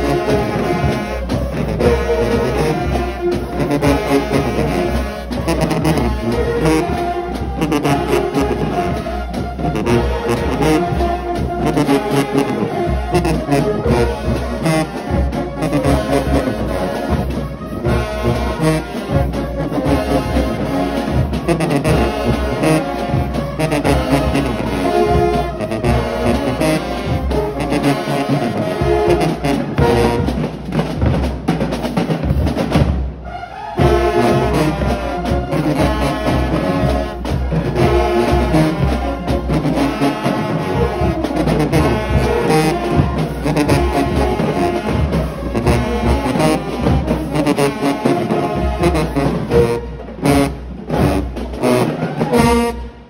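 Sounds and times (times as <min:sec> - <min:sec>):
marching band brass playing: 0:00.0 - 0:53.0.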